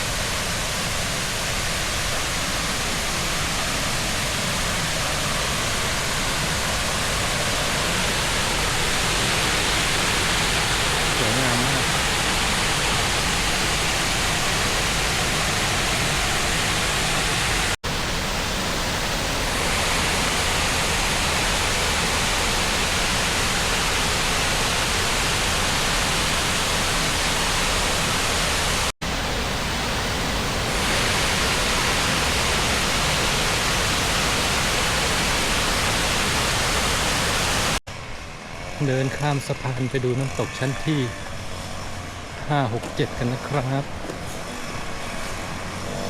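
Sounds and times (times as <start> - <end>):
waterfall rushing: 0.0 - 37.8.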